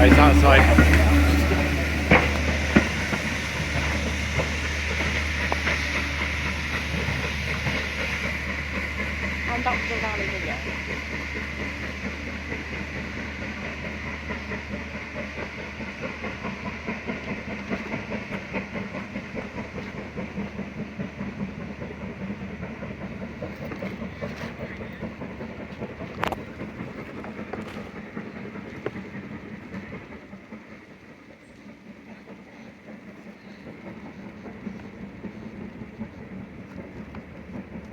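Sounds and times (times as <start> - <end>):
train rumbling on track: 0.0 - 37.9
wheels clicking over rail joints: 0.0 - 37.9.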